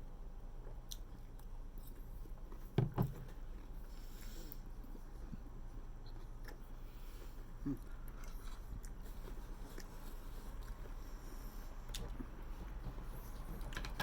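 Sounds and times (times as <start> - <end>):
chewing and mouth sounds: 0.6 - 2.7, 3.4 - 13.9.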